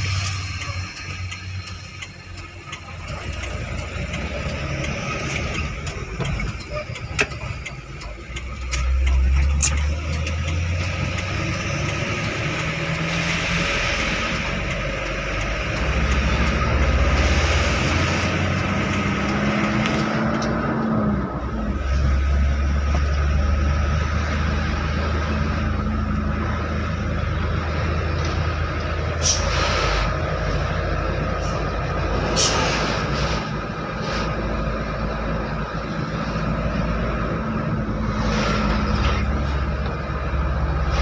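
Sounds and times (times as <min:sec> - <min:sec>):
rattles inside truck cab: 0:00.0 - 0:41.0
road noise: 0:00.0 - 0:41.0
truck engine running: 0:00.0 - 0:41.0.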